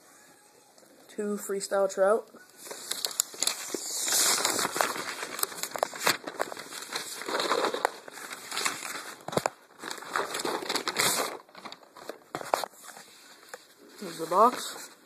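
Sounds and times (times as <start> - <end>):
packaging rustling and crinkling: 2.6 - 15.0.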